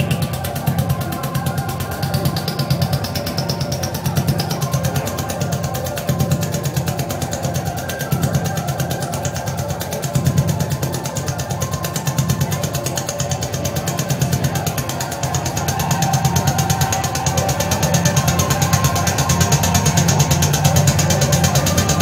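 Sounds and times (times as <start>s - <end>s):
band playing electronic drone: 0.0s - 22.0s.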